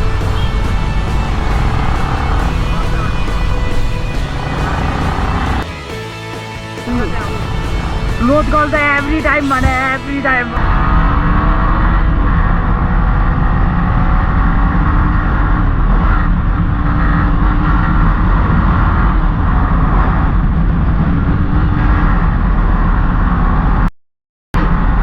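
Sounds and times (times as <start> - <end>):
motorcycle engine running: 0.0 - 22.7
road and wind noise: 0.0 - 23.9, 24.6 - 25.0.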